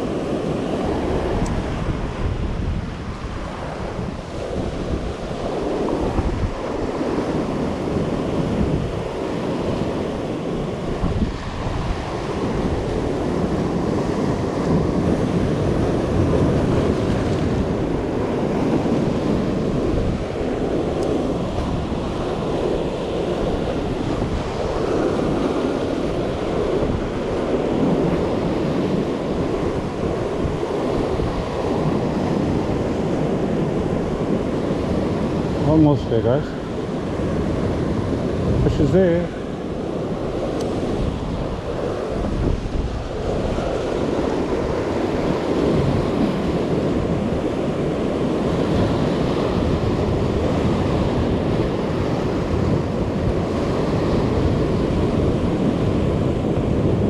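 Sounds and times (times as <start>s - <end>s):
ocean surf breaking on rocks: 0.0s - 57.0s
wind rumbling on microphone: 0.0s - 57.0s.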